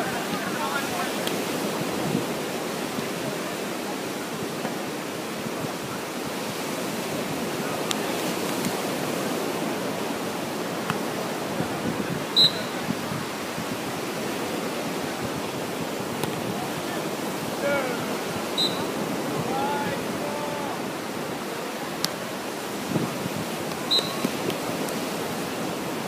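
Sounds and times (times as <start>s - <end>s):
surf rushing: 0.0s - 26.0s
wind: 0.0s - 26.0s.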